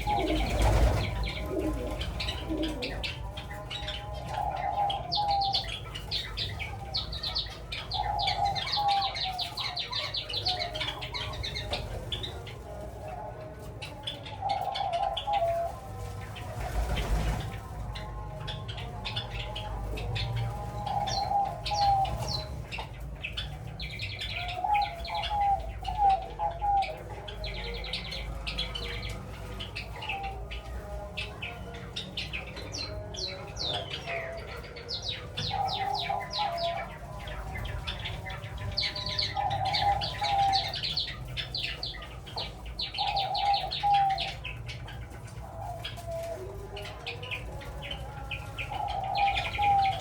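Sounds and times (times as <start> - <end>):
doves cooing: 0.0 - 50.0
sparrows chirping: 0.0 - 50.0.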